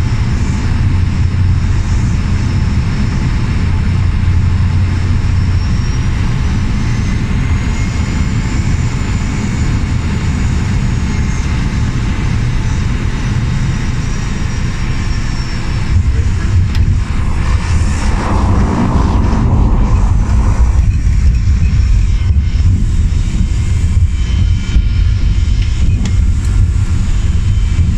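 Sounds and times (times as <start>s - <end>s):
floatplane engine and propeller: 0.0s - 27.9s.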